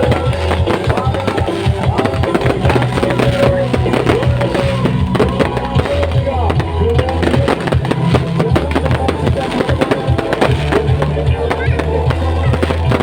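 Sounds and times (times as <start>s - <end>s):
fireworks bursting and crackling: 0.0s - 13.0s
loud music with heavy bass: 0.0s - 13.0s
voices: 0.0s - 13.0s.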